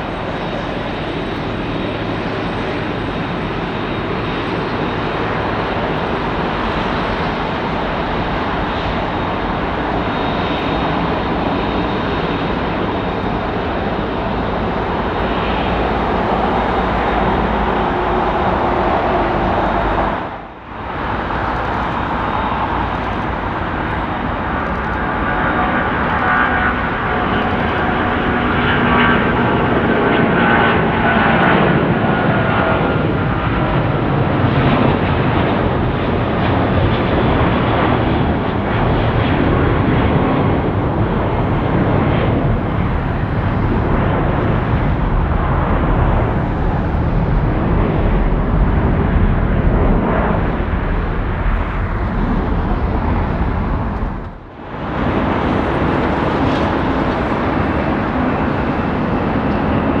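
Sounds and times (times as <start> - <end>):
jet engines roaring: 0.0 - 60.0.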